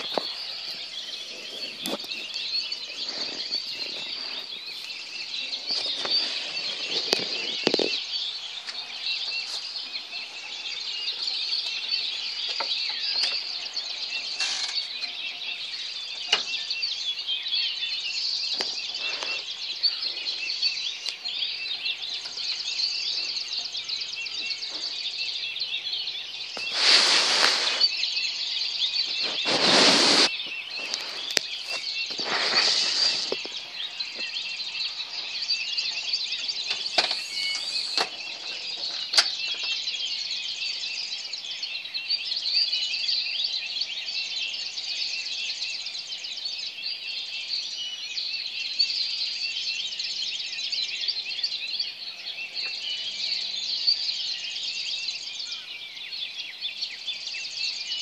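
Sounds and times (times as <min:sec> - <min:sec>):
chorus of bird chirps and trills: 0:00.0 - 0:58.0.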